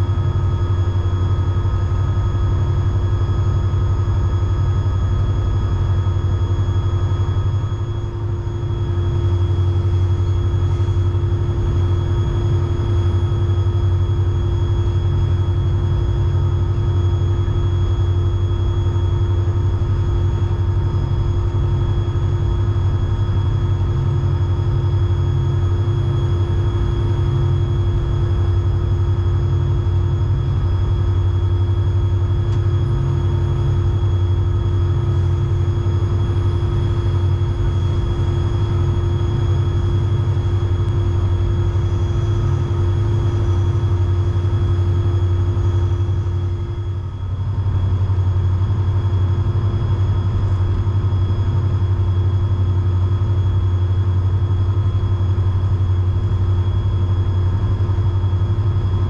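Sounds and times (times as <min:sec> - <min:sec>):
constant engine whine: 0:00.0 - 0:59.0
diesel locomotive engine drone: 0:00.0 - 0:59.0.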